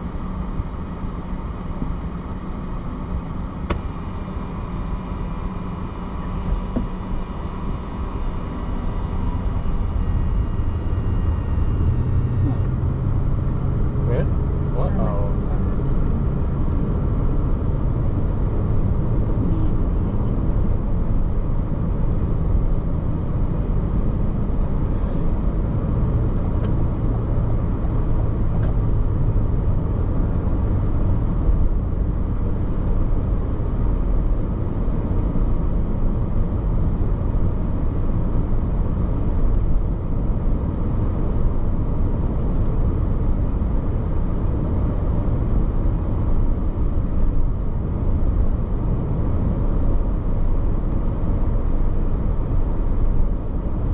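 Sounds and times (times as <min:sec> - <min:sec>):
car road noise from inside: 0:00.0 - 0:53.9.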